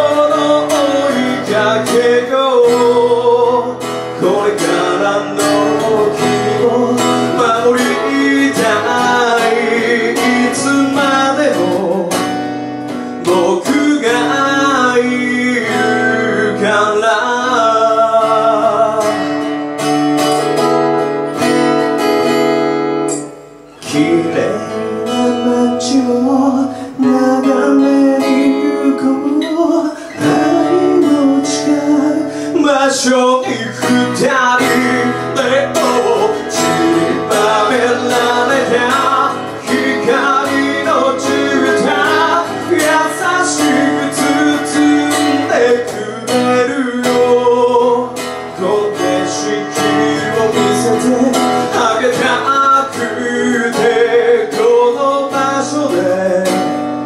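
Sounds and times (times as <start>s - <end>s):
man singing: 0.0s - 19.6s, 23.7s - 57.0s
strummed acoustic guitar: 0.0s - 57.0s.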